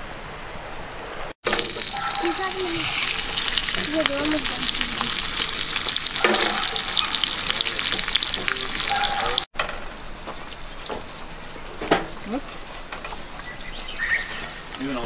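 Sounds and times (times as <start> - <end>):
steak sizzling in a skillet: 1.4 - 15.0.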